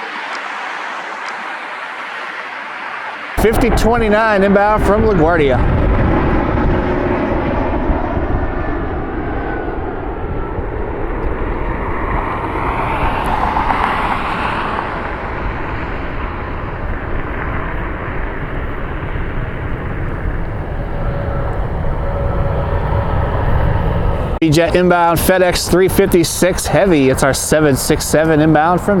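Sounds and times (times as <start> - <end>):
jet airliner engine noise: 0.0 - 29.0
low rumble: 2.9 - 26.2.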